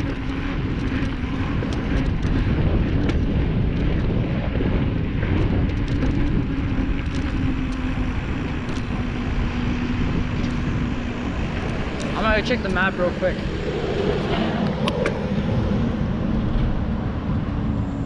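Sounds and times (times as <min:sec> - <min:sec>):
low hum: 0:00.0 - 0:18.0
wind buffeting microphone: 0:00.0 - 0:18.0.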